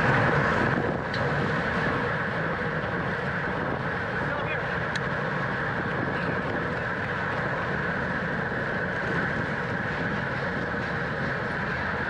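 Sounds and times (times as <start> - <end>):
bicycle tyre and drivetrain noise: 0.0 - 12.0
wind rushing over microphone: 0.0 - 12.0.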